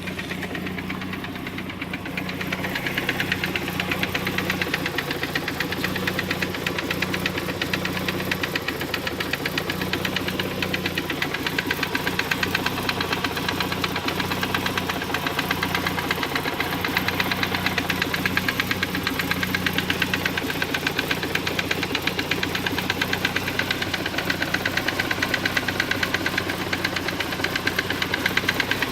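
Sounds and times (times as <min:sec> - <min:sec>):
car engine running: 0:00.0 - 0:28.9
fast regular engine knocking: 0:00.0 - 0:28.9.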